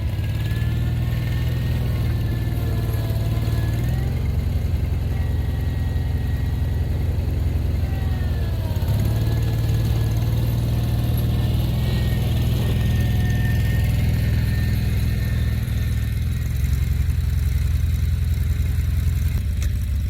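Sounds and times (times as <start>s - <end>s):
gasoline engine running: 0.0s - 20.0s.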